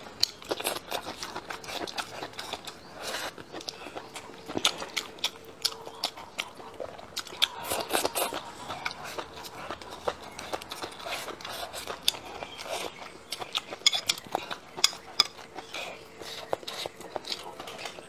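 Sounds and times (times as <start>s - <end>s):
person chewing crunchy food: 0.0s - 18.0s
wet crunches and mouth clicks: 0.0s - 18.0s.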